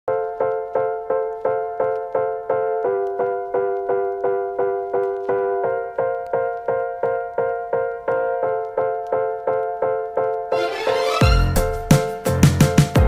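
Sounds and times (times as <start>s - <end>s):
piano playing repeated chords: 0.1s - 13.0s.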